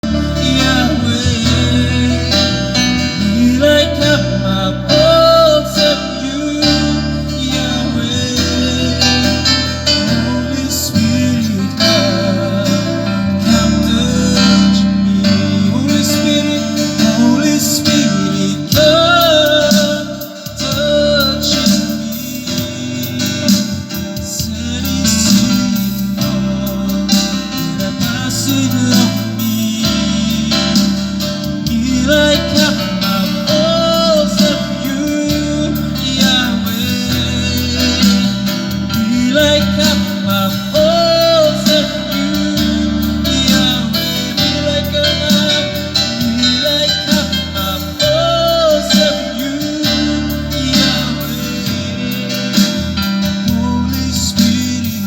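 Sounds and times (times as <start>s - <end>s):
gospel singing: 0.0s - 55.0s
guitar accompaniment: 0.0s - 55.0s
steady bass line: 0.0s - 55.0s.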